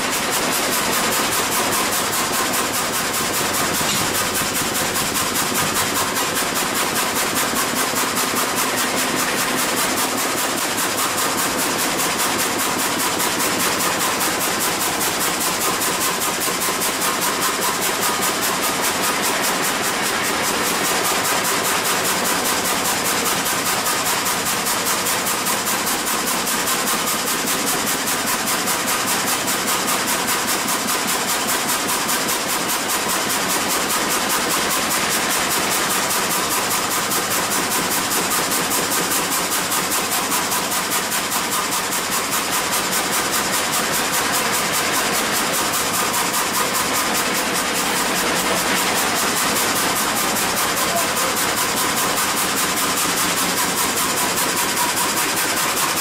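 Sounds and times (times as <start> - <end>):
frame saw cutting log: 0.0 - 56.0.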